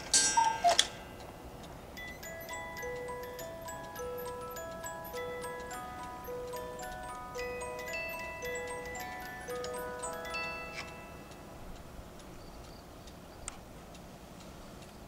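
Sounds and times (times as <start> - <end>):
music box melody: 0.1 - 13.2
clock ticking: 0.1 - 13.3.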